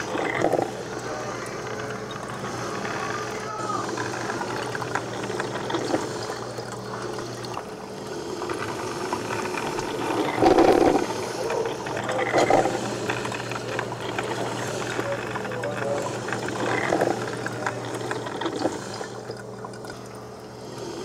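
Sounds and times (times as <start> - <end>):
coffee bubbling into carafe: 0.0 - 21.0
low steady hum: 0.0 - 21.0.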